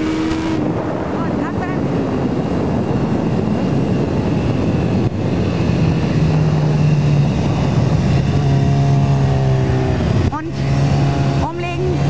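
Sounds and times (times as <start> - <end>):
motorcycle engine running at speed: 0.0 - 12.0
wind rush: 0.0 - 12.0.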